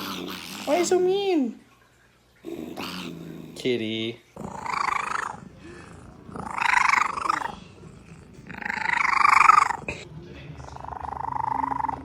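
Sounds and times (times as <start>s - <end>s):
cat growling: 0.0s - 0.9s, 2.4s - 3.7s, 4.3s - 12.0s.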